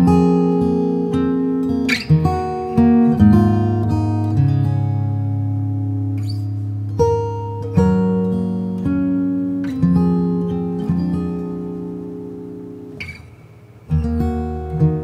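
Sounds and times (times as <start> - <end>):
acoustic guitar fingerstyle chords: 0.0 - 15.0.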